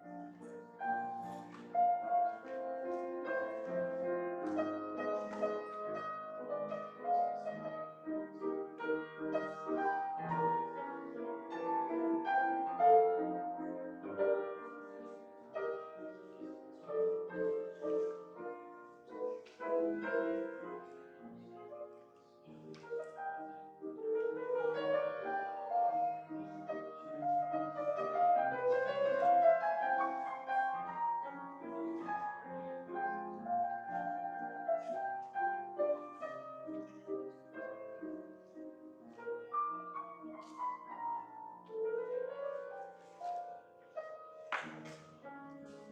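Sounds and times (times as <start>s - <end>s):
slow classical piano piece: 0.0s - 45.9s.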